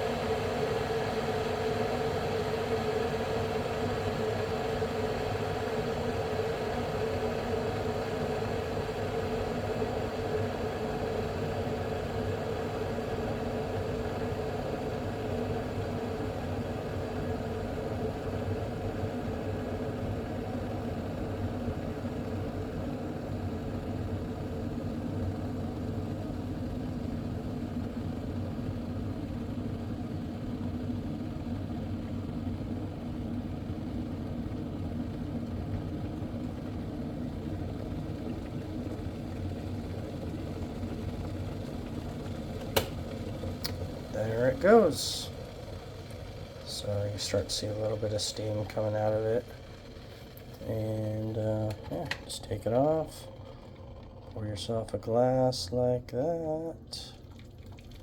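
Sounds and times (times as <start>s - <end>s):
electric kettle heating water: 0.0s - 58.0s.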